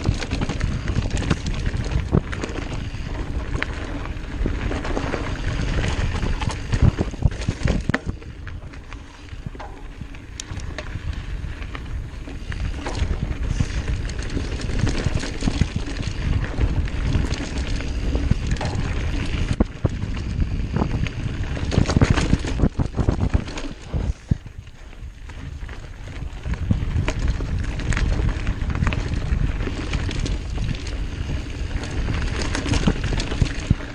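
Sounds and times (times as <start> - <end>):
bike knocking and rattling: 0.0 - 33.9
bike tyres rumbling on dirt: 0.0 - 33.9
wind buffeting microphone: 0.0 - 33.9.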